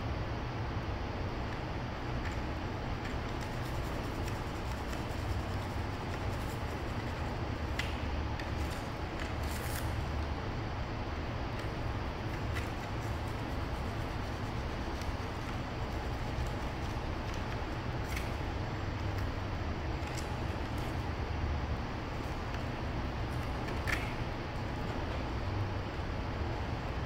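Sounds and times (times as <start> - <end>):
low room rumble: 0.0 - 27.0.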